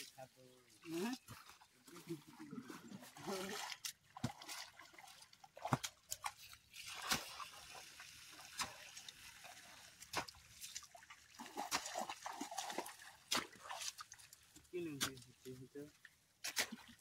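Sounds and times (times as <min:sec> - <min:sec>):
bare feet squelching through mud: 0:00.8 - 0:15.2.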